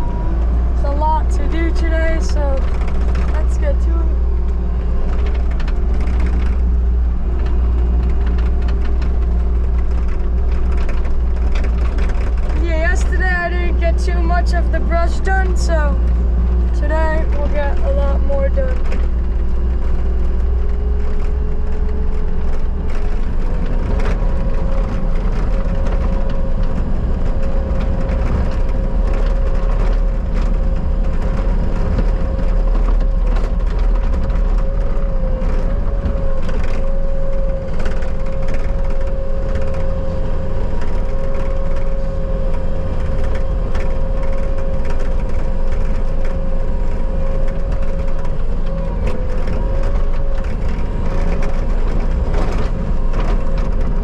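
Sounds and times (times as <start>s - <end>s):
skid steer engine and hydraulic whine: 0.0s - 54.0s.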